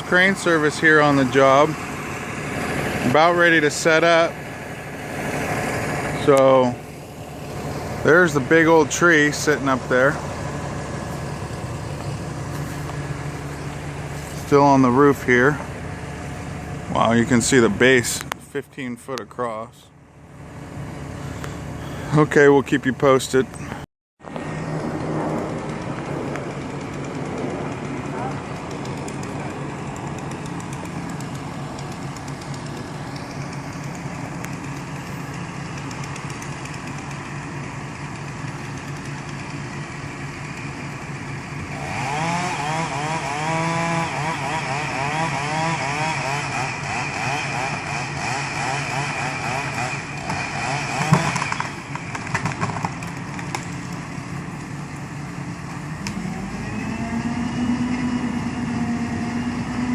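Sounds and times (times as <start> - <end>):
chainsaw cutting: 0.0 - 18.1, 24.8 - 59.9
heavy engine revving: 0.0 - 18.6, 19.4 - 59.9
steady engine hum: 0.0 - 59.9.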